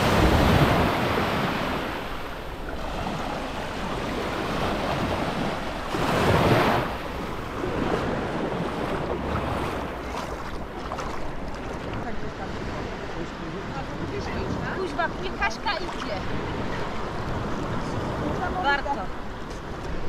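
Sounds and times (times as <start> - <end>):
small waves breaking on beach: 0.0 - 20.0.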